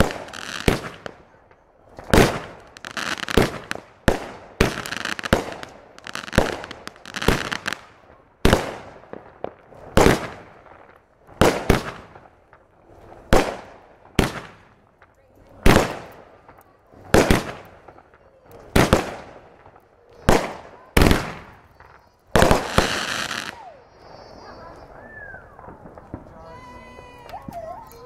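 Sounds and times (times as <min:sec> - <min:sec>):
fireworks bangs echoing: 0:00.0 - 0:27.9.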